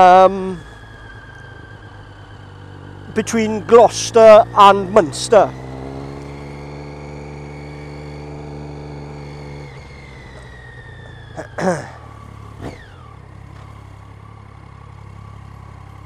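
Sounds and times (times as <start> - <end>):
motorcycle engine running: 0.0 - 16.0
motorcycle revving: 0.0 - 16.0.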